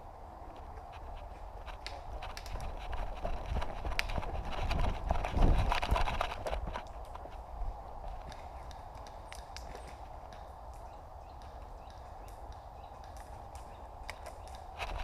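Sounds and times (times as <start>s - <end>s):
footsteps on woodland ground: 0.1s - 15.0s
rustling: 0.5s - 15.0s.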